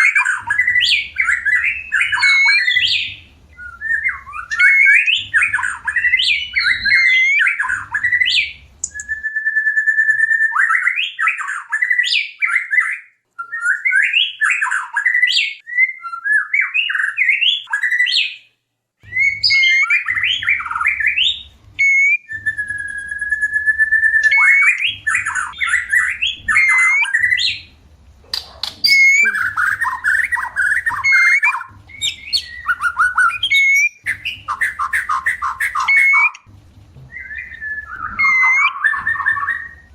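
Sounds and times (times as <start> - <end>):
songbird whistling song: 0.0 - 36.5, 37.1 - 39.9.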